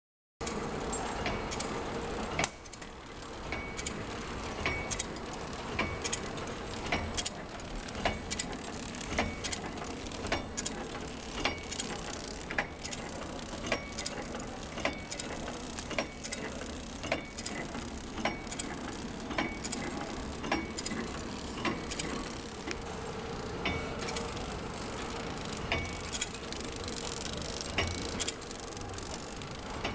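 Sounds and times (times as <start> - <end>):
machine sharp clicks: 0.4 - 29.9
steady mechanical hum: 0.4 - 29.9.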